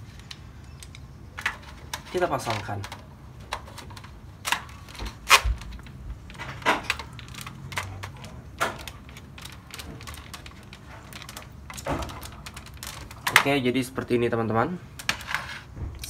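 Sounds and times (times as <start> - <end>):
sharp plastic clicks and knocks: 0.2 - 13.6.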